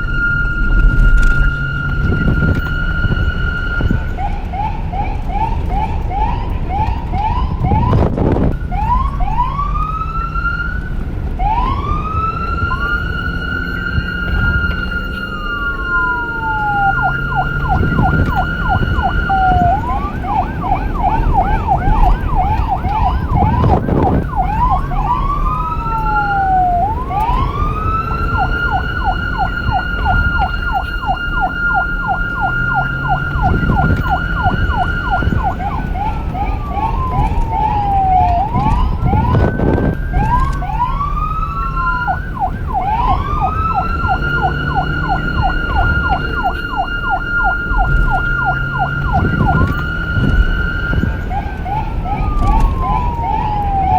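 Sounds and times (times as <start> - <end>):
police sirens yelping and wailing: 0.0 - 53.9
steady high siren tone: 0.0 - 53.9.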